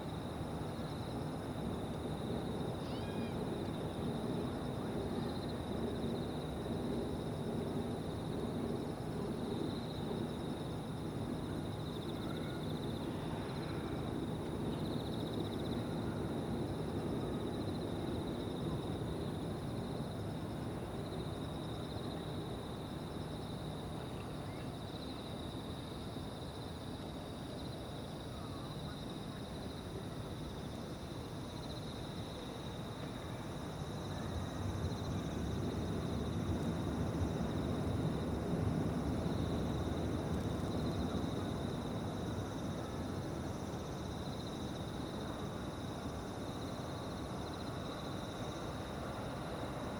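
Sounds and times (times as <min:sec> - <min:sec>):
insect chorus trilling: 0:00.1 - 0:49.9.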